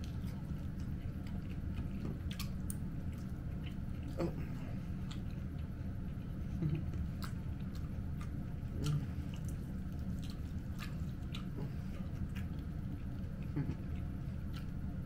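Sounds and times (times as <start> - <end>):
person chewing food: 0.0 - 15.0
steady low hum: 0.0 - 15.0.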